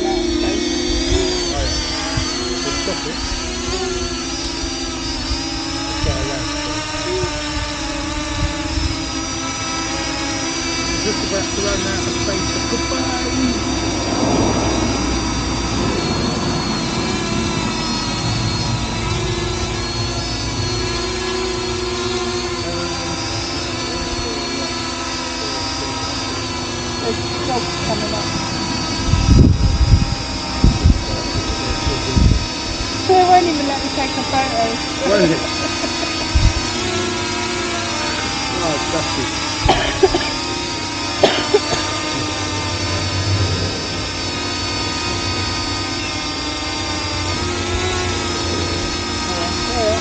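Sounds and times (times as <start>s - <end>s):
quadcopter propellers buzzing: 0.0s - 50.0s.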